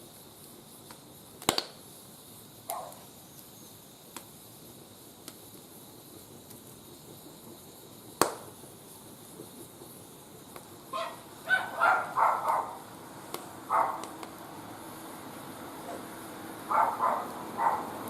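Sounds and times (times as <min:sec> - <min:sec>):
faint steady hiss: 0:00.0 - 0:18.0
wood fire popping: 0:00.0 - 0:18.0.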